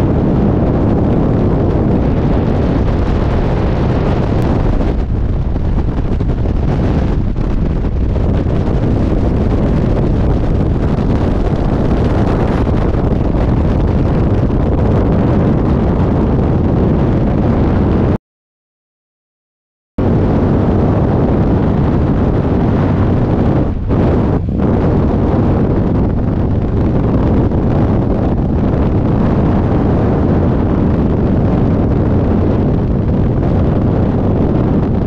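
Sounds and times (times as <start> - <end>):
wind rushing across microphone: 0.0 - 18.2, 20.0 - 35.0.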